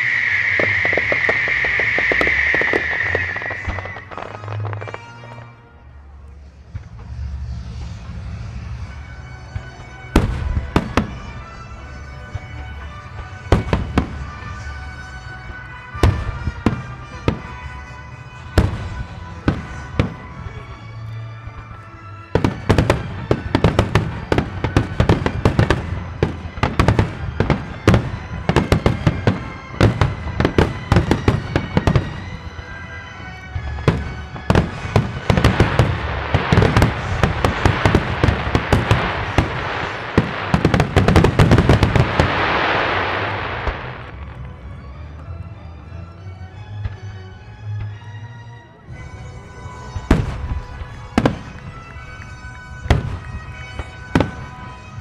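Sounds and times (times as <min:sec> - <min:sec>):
fireworks bangs: 0:00.0 - 0:05.6, 0:06.3 - 0:45.2, 0:48.9 - 0:55.0
crackling hiss of fireworks: 0:00.0 - 0:45.3, 0:48.9 - 0:55.0
music track: 0:00.0 - 0:55.0.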